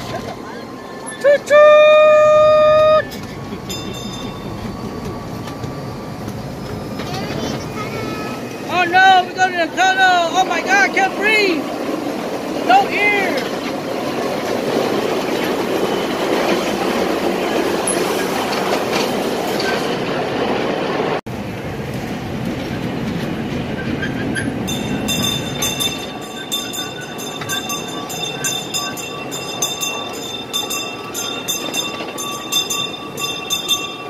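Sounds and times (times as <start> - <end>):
miniature train rumbling: 0.0 - 34.0
wheels clicking over rail joints: 2.2 - 21.0, 21.7 - 34.0.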